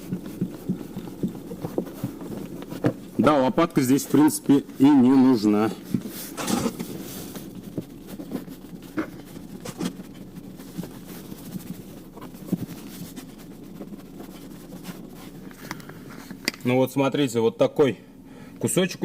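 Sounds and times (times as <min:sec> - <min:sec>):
rubber seal rubbing: 0:00.0 - 0:16.6.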